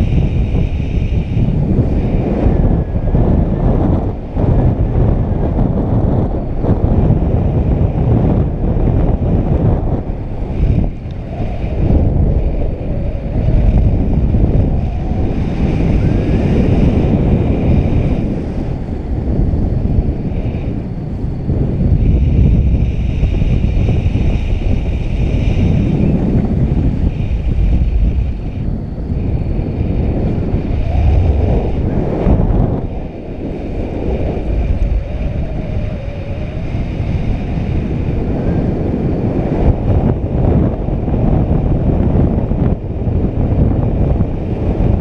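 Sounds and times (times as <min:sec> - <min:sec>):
gusty wind noise on microphone: 0:00.0 - 0:45.0.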